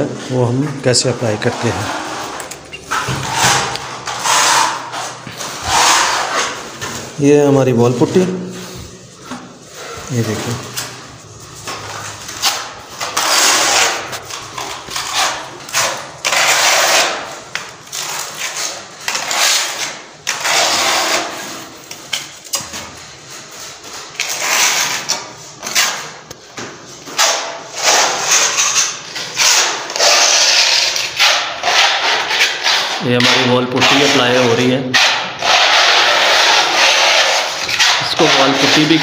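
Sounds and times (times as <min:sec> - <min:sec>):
putty knife scraping wall: 0:01.3 - 0:07.2, 0:11.6 - 0:26.2, 0:27.0 - 0:39.0.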